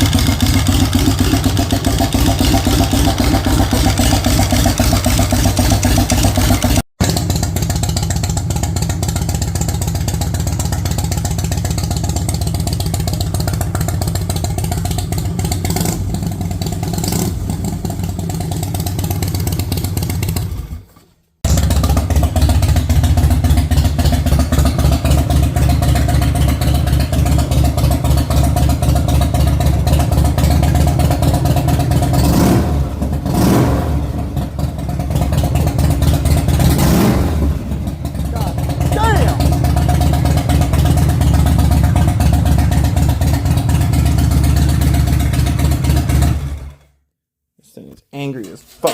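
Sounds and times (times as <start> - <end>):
motorcycle engine running: 0.0 - 46.8.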